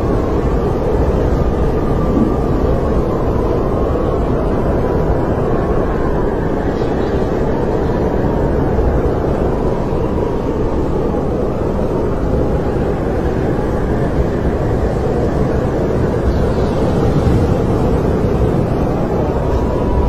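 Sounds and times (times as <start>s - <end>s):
faint wind howling: 0.0s - 20.0s
snowstorm wind low rumble: 0.0s - 20.0s.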